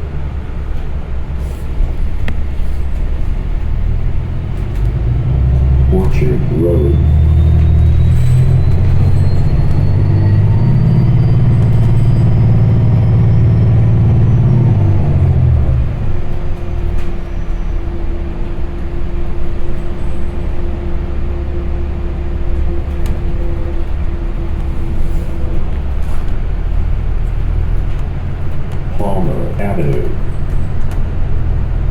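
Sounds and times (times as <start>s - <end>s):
steady drivetrain whine: 0.0s - 29.6s
bus engine accelerating: 0.0s - 31.9s.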